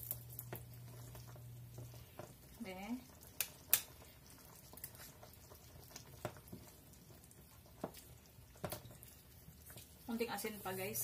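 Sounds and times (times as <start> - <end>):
spoon stirring soup in a pan: 0.2 - 10.7.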